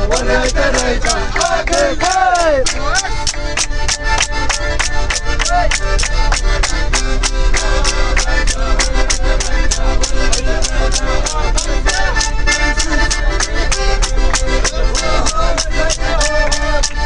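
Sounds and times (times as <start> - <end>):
button accordion dance tune: 0.0 - 17.0
voices calling out: 0.0 - 17.0
sharp hand claps: 0.1 - 17.0.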